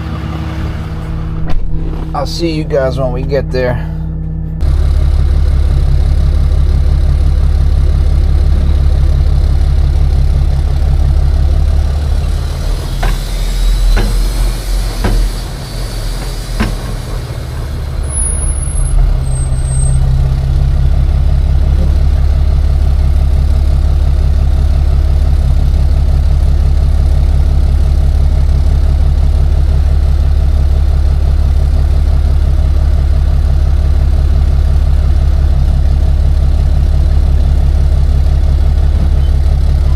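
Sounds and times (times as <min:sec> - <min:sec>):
tow truck engine drone: 0:00.0 - 0:39.9.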